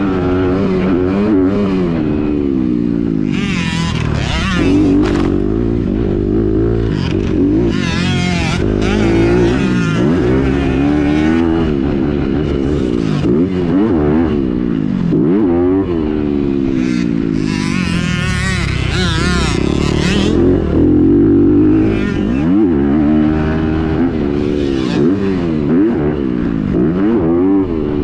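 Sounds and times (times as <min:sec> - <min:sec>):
motorcycle engine revving hard: 0:00.0 - 0:28.0.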